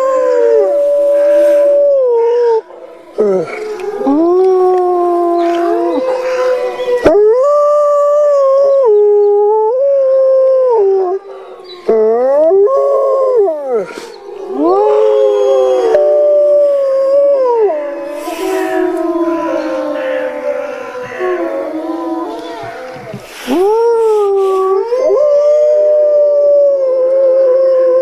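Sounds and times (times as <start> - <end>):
wolves howling: 0.0 - 28.0.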